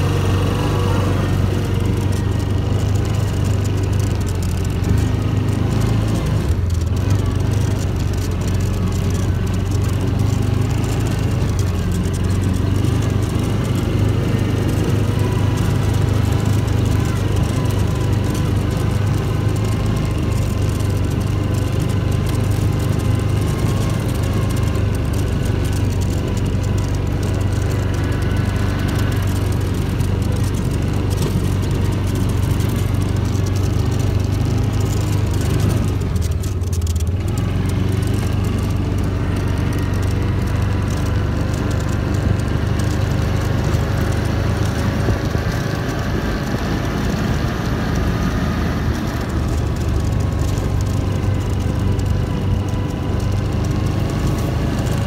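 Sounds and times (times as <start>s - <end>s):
utility vehicle engine running: 0.0s - 55.0s.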